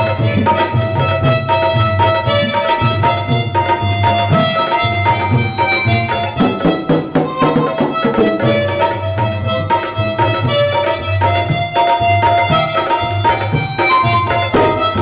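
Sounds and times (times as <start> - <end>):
harmonica melody: 0.0 - 15.0
tabla drumming: 0.0 - 15.0.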